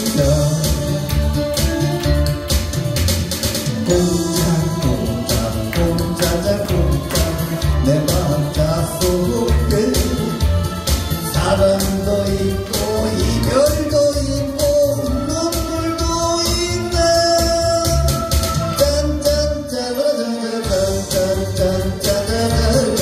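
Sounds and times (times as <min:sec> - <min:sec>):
man singing into a microphone: 0:00.0 - 0:02.0, 0:03.8 - 0:23.0
backing track with steady beat: 0:00.0 - 0:23.0.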